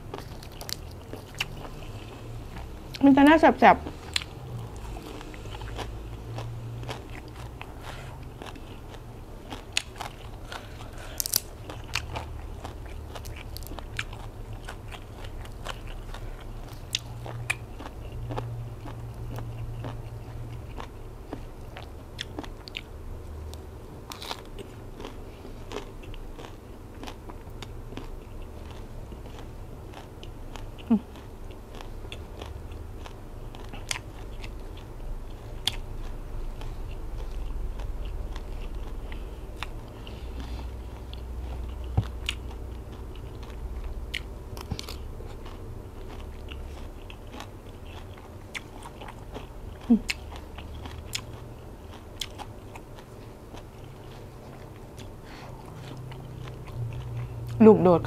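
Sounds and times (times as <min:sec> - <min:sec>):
crisp crunching of food: 0:00.0 - 0:03.2, 0:04.0 - 0:22.9, 0:24.0 - 0:57.5
wet chewing: 0:00.0 - 0:22.9, 0:23.5 - 0:57.6.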